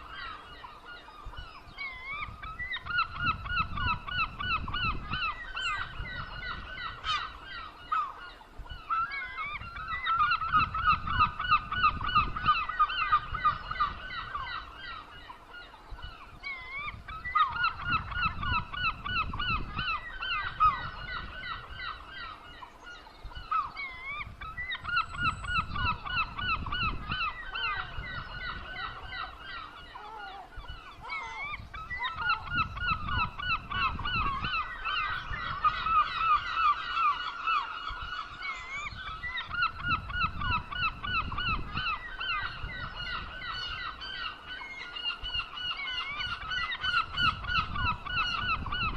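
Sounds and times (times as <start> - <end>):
seagulls calling: 0.0 - 48.9.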